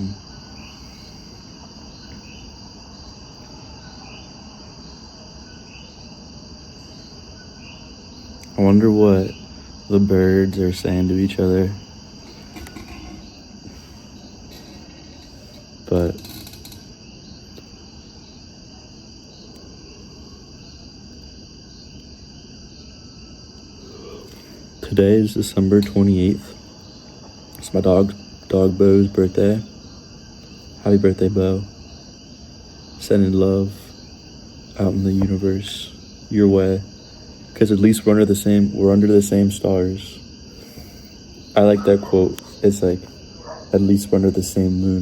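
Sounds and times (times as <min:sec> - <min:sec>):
crickets and insects chorus: 0:00.0 - 0:45.0.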